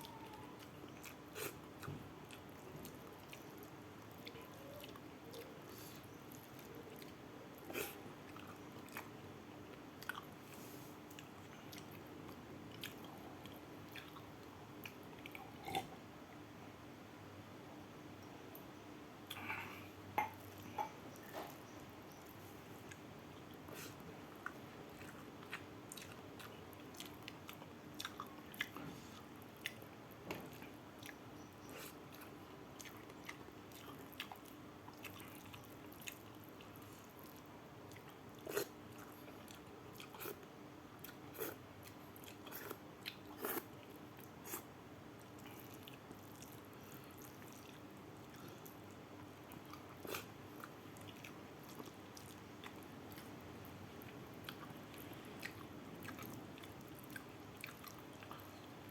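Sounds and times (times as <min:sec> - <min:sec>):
chewing and wet mouth sounds: 0:00.0 - 0:16.0, 0:18.2 - 0:58.9
faint steady hum: 0:00.0 - 0:58.9.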